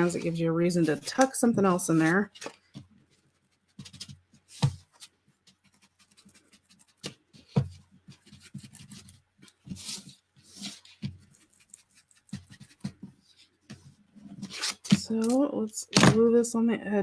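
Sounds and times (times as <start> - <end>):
paper rustling and scraping: 0.0 - 15.3.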